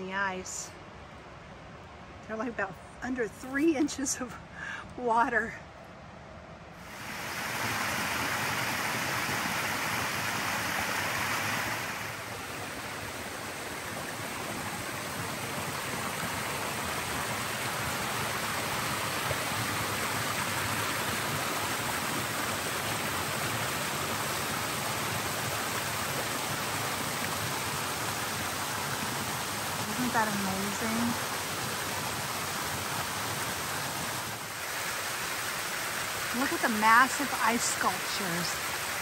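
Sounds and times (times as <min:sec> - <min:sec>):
stream water flowing: 0:06.6 - 0:39.0.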